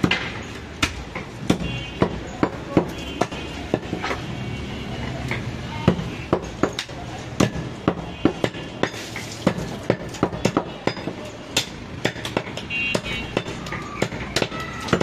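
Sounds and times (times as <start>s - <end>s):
cleaver chopping on wooden block: 0.0s - 4.2s, 5.3s - 15.0s.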